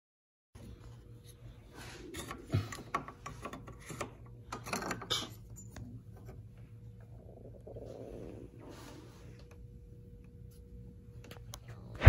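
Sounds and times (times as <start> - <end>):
low steady hum: 0.6 - 12.0.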